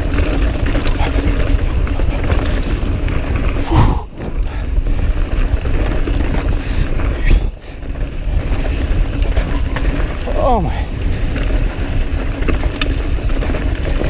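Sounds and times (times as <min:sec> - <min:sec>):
bike rattling: 0:00.0 - 0:14.0
tyres rumbling on dirt: 0:00.0 - 0:14.0
wind rush on microphone: 0:00.0 - 0:14.0.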